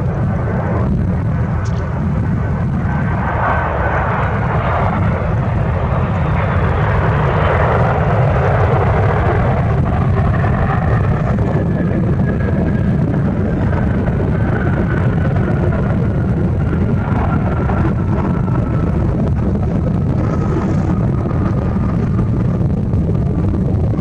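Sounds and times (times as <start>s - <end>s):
jet engines running: 0.0s - 24.0s
wind rumble on microphone: 0.0s - 24.0s.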